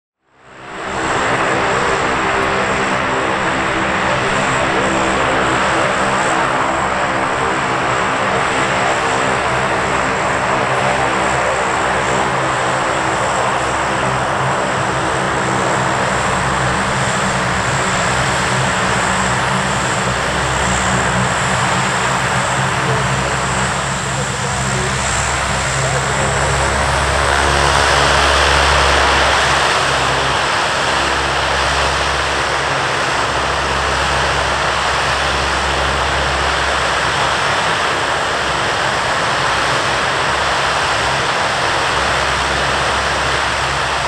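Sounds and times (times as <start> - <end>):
turboprop engines running: 0.3 - 44.0.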